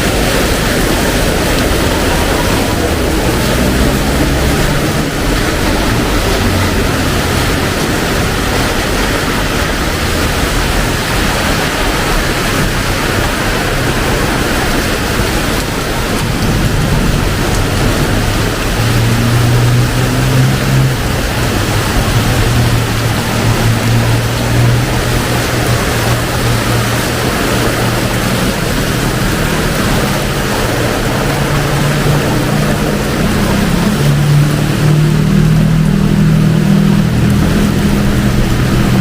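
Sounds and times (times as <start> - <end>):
heavy rain pouring: 0.0 - 39.0
passing vehicle engines hum: 0.0 - 39.0.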